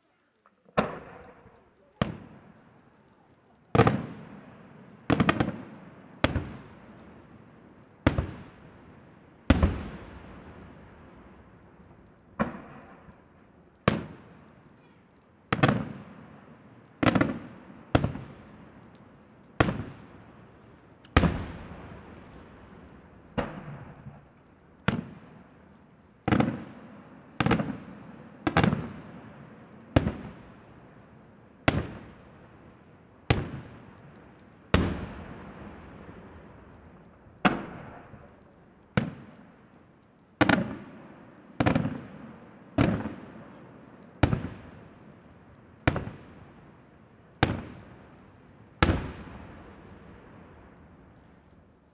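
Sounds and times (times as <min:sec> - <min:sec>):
firework shells bursting: 0:00.0 - 0:46.6.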